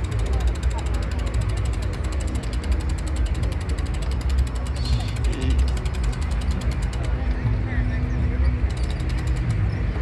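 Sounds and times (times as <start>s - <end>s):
bicycle freewheel ticking: 0.0s - 7.5s, 8.5s - 10.0s.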